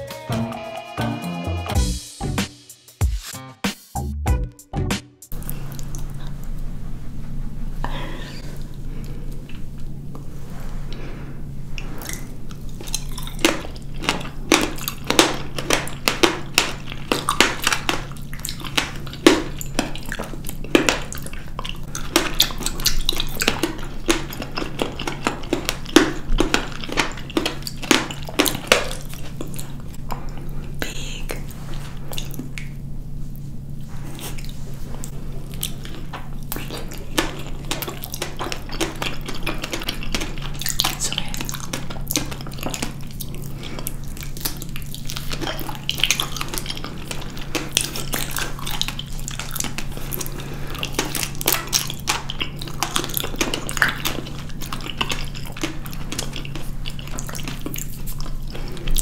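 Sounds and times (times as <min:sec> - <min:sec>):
chewing berries: 0:05.3 - 0:06.7, 0:11.8 - 0:59.0.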